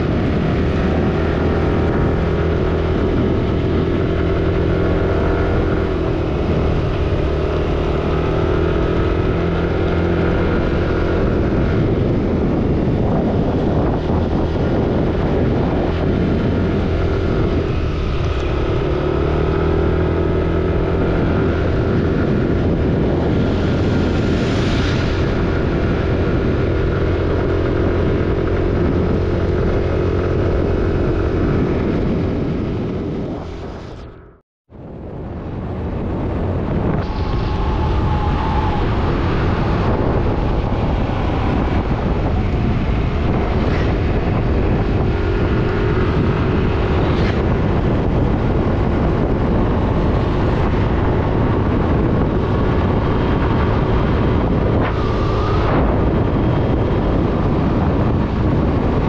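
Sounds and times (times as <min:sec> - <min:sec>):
motorcycle engine running: 0:00.0 - 0:34.4, 0:35.0 - 0:59.0
wind: 0:00.0 - 0:59.0.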